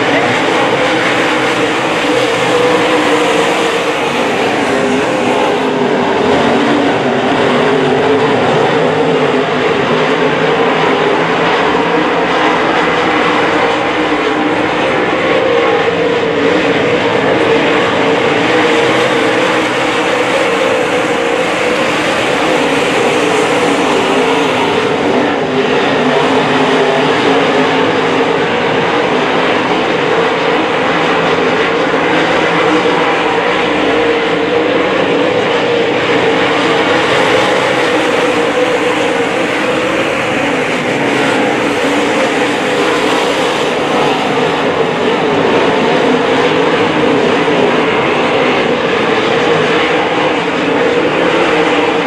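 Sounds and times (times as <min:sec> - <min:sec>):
race car engines droning: 0:00.0 - 0:52.0.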